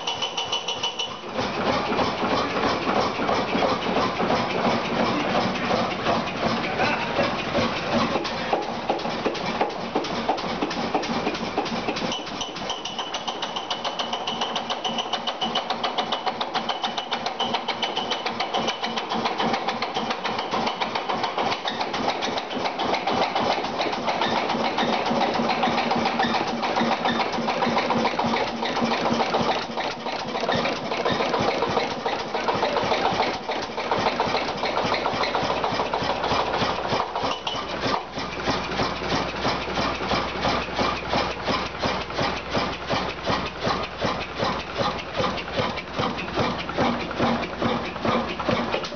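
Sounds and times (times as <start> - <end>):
stationary engine running: 0.0 - 48.9.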